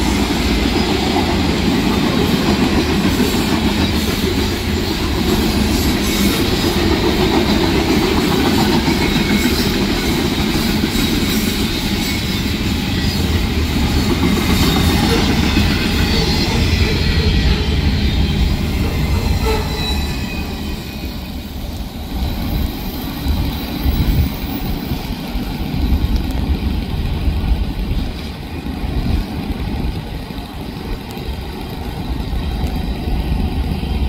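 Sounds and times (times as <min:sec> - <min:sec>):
freight train wheels rumbling: 0:00.0 - 0:34.0.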